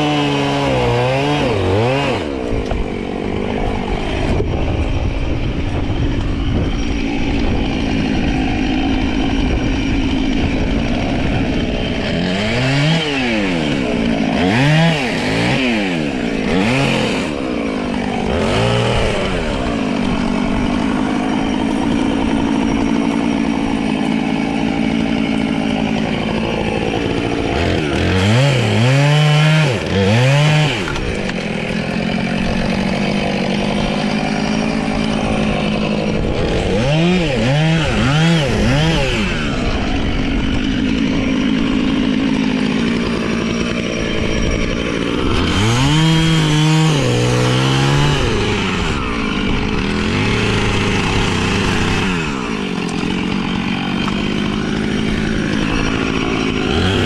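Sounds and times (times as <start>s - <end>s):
chainsaw engine idling and revving: 0.0s - 57.0s.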